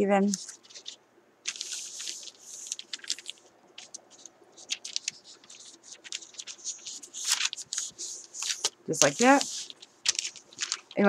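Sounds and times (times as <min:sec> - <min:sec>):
plastic pouch crinkling: 0:00.2 - 0:11.0.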